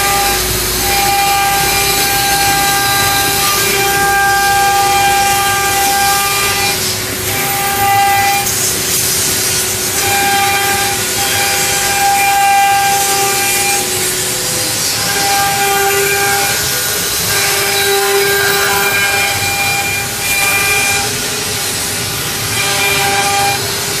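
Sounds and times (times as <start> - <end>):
hiss of wood cutting: 0.0 - 24.0
router spindles whining: 0.0 - 24.0.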